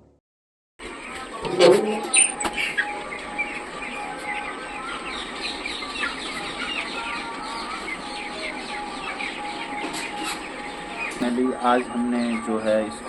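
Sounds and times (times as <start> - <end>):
chicks peeping and chirping: 0.8 - 13.0.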